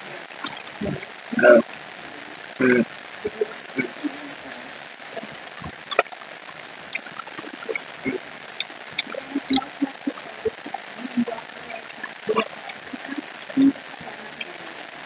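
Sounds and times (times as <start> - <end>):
mouth clicks and smacks: 0.4 - 2.0, 2.6 - 14.6.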